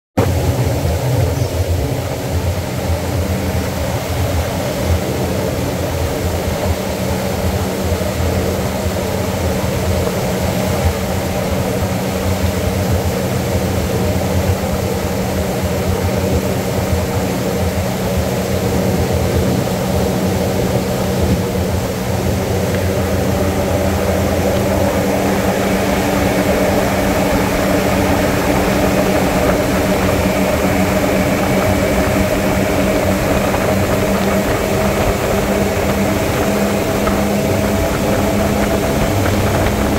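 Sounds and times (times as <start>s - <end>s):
outboard motors droning: 0.2s - 39.9s
rushing water and wind: 0.2s - 39.9s.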